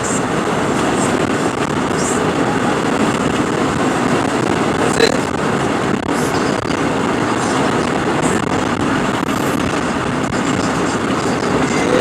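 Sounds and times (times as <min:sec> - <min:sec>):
car road and tyre noise: 0:00.0 - 0:12.0.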